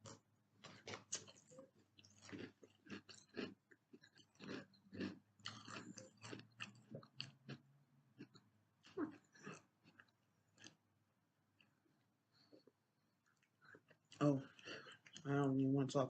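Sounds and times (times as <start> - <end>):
chewing cereal crunches: 0.0 - 7.6, 8.2 - 10.8, 12.4 - 15.3.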